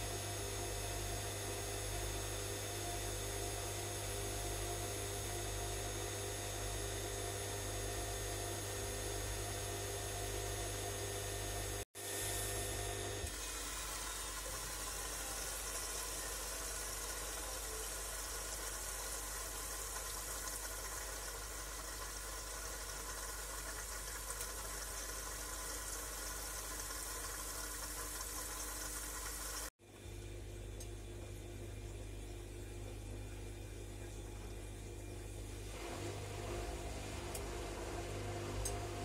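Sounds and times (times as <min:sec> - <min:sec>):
washing machine running: 0:00.0 - 0:39.0.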